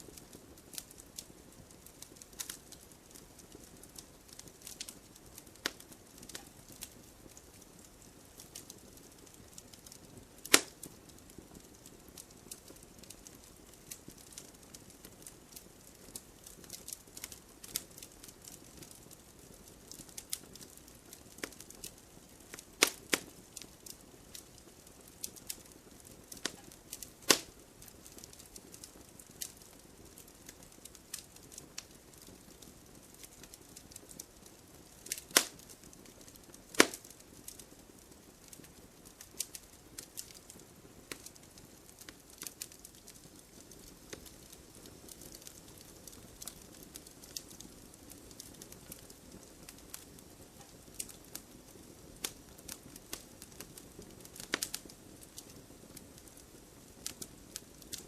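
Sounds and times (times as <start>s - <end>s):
faint hiss: 0.0s - 58.0s
wood fire crackling: 0.0s - 58.0s.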